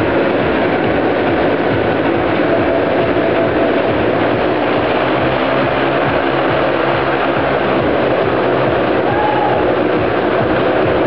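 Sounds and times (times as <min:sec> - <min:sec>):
motorcycle engines running hard: 0:00.0 - 0:11.0.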